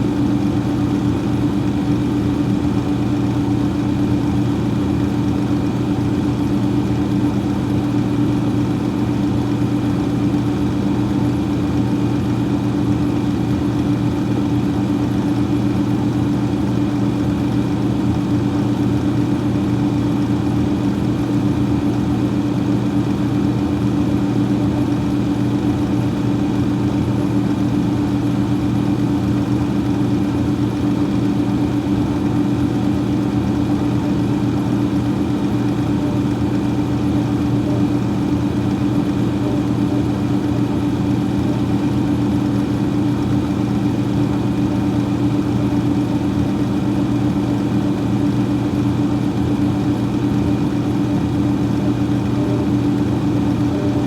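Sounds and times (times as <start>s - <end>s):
freezer fan humming: 0.0s - 54.0s.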